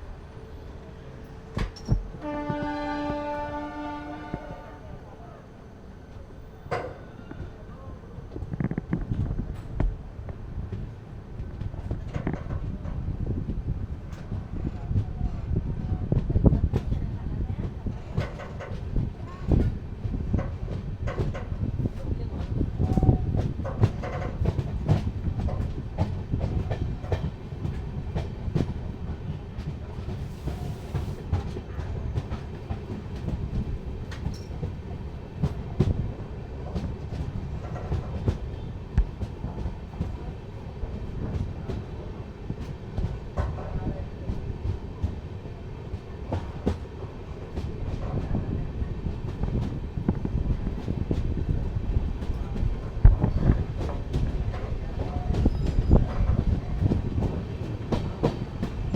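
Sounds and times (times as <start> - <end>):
train rumbling on track: 0.0 - 58.9.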